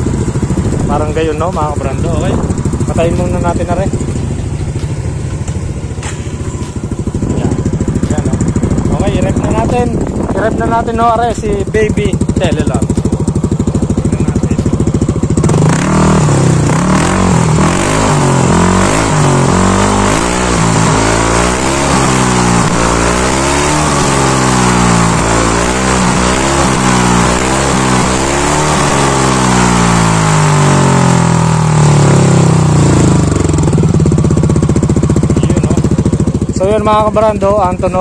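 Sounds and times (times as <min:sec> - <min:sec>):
scooter engine revving: 0:00.0 - 0:38.0.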